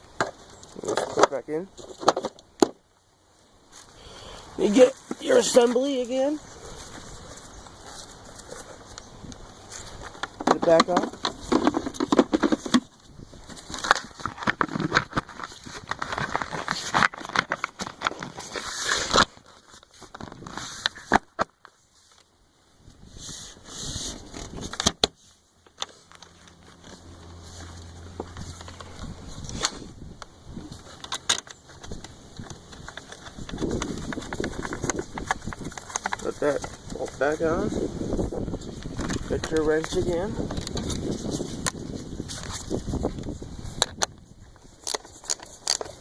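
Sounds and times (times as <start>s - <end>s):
plastic housing rattling and scraping: 0.1s - 2.8s, 4.6s - 22.3s, 23.6s - 46.0s.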